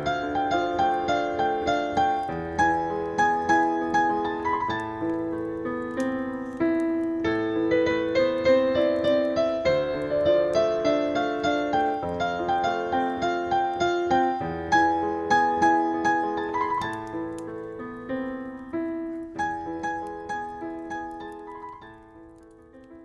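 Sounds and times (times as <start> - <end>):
fireplace crackling: 0.0 - 23.0
slow solo piano melody: 0.0 - 23.0.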